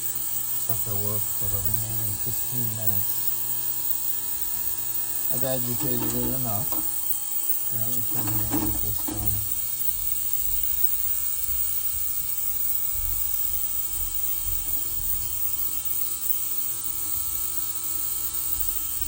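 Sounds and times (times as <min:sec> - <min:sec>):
ultrasonic cleaner buzzing hiss: 0:00.0 - 0:19.0.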